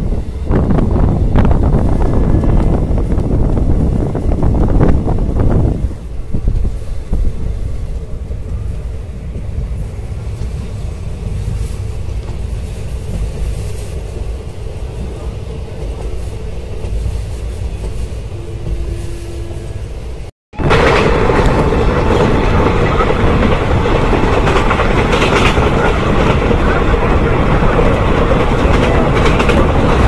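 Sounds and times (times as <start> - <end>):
rumble of train wheels on track: 0.0 - 30.0.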